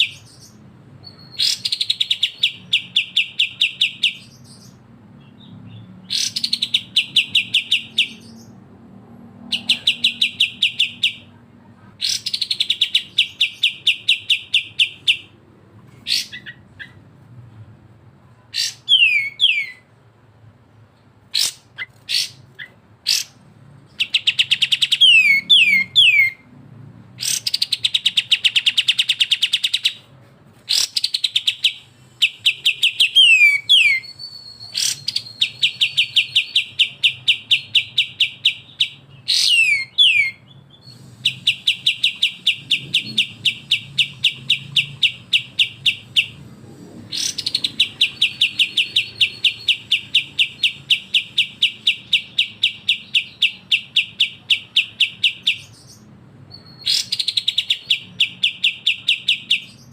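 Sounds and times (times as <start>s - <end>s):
songbird rapid rattling song: 0.0s - 11.3s, 12.0s - 17.1s, 21.1s - 26.4s, 27.1s - 59.9s.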